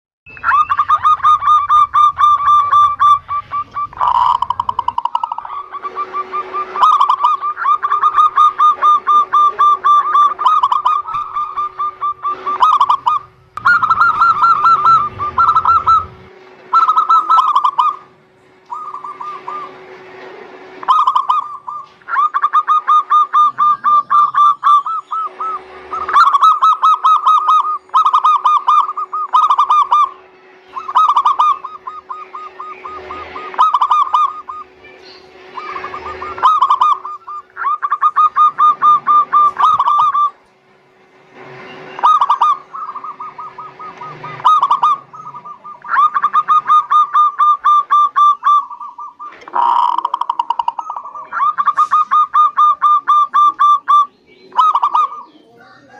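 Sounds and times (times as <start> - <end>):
doves cooing: 0.3 - 40.6, 41.4 - 55.9
steady low hum: 0.3 - 55.9.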